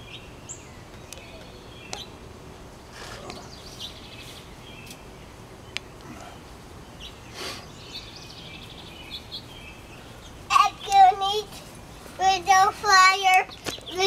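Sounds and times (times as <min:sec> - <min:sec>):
songbirds chirping: 0:00.0 - 0:14.0
steady background hiss: 0:00.0 - 0:14.0.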